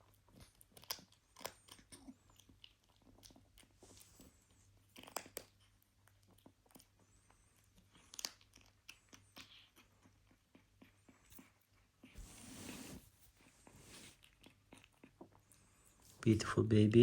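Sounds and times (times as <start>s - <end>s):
kitten crunching food: 0.0s - 12.2s, 13.3s - 16.3s.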